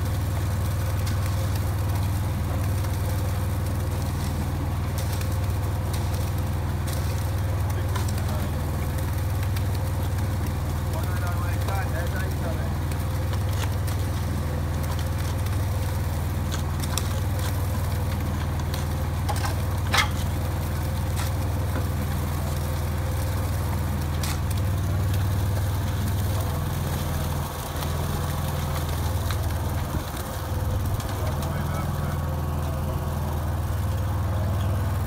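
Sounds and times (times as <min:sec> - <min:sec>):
dumper engine idling: 0:00.0 - 0:35.0.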